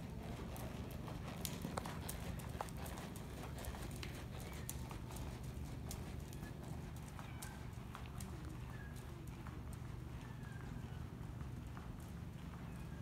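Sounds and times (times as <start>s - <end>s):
horse hoofbeats on soft dirt: 0.0s - 13.0s
steady low hum: 0.0s - 13.0s.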